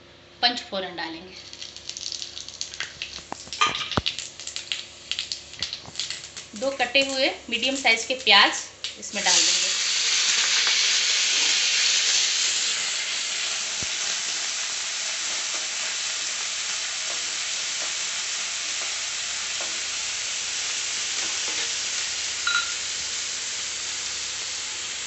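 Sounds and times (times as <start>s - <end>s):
onions sizzling in hot oil: 1.5s - 25.0s.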